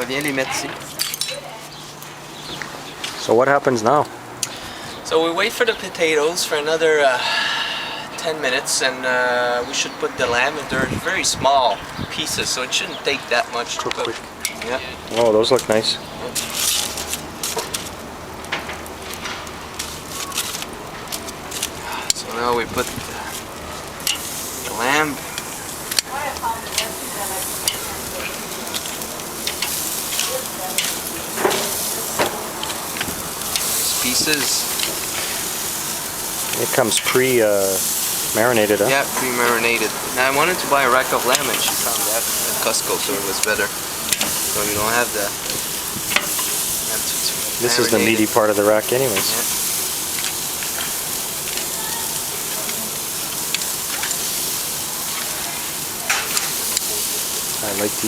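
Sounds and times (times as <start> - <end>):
meat sizzling on a grill: 0.0 - 3.4, 4.0 - 58.0
fat crackling: 0.0 - 7.4, 8.2 - 58.0.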